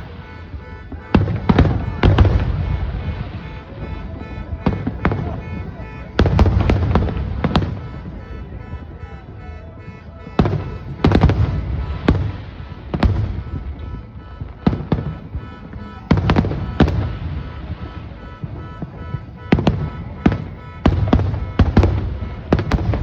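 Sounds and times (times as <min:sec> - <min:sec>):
fireworks shells bursting: 0:00.0 - 0:23.0
music playing: 0:00.0 - 0:23.0.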